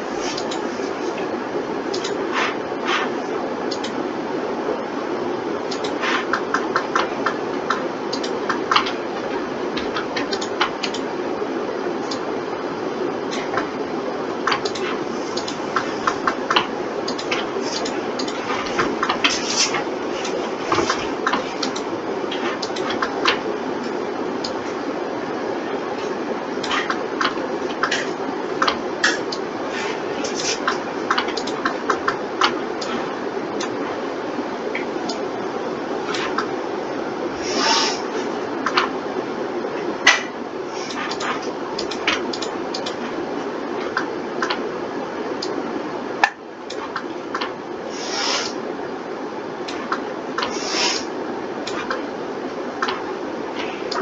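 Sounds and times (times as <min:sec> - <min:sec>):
background hiss: 0:00.0 - 0:46.2, 0:46.8 - 0:54.0
steady background hum: 0:00.0 - 0:54.0.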